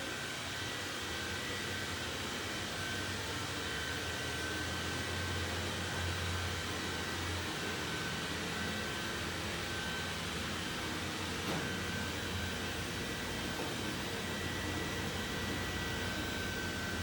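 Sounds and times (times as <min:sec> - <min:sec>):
robot vacuum fan whir: 0:00.0 - 0:17.0.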